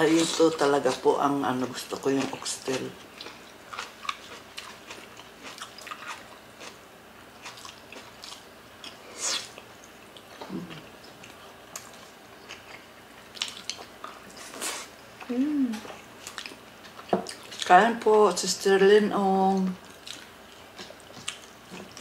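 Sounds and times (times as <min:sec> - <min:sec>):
people chewing: 0:00.1 - 0:06.8, 0:07.4 - 0:17.8, 0:19.5 - 0:22.0.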